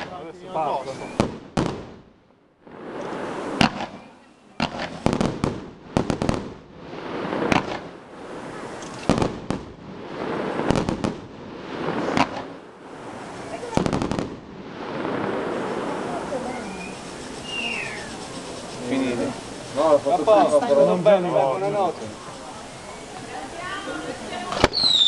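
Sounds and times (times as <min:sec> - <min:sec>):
fireworks bangs: 0:00.0 - 0:21.0, 0:21.6 - 0:25.0
fireworks crackling: 0:00.0 - 0:25.0.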